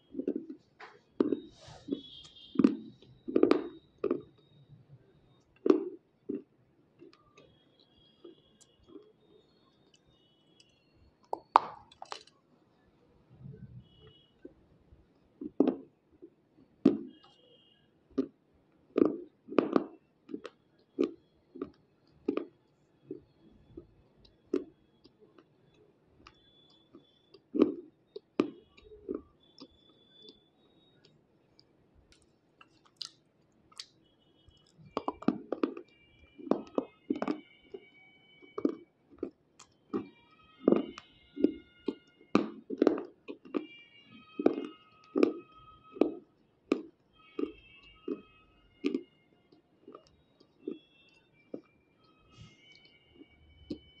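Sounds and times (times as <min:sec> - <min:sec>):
crunching and chewing: 0:00.0 - 0:04.6, 0:05.2 - 0:09.2, 0:09.8 - 0:12.4, 0:18.1 - 0:54.0.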